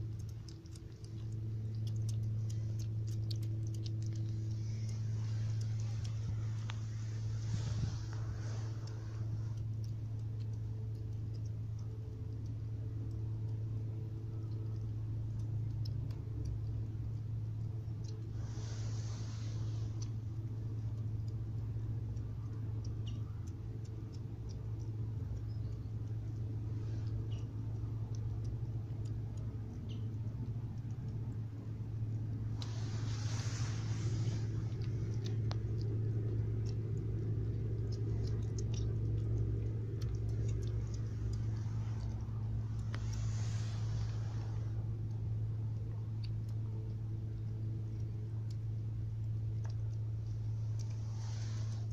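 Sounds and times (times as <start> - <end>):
kittens chewing and licking: 0.0 - 51.9
steady low hum: 0.0 - 51.9.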